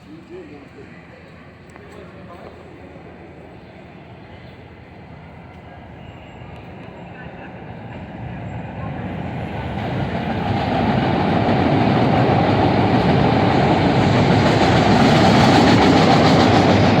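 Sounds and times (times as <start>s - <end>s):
train wheel and track noise: 0.0s - 17.0s.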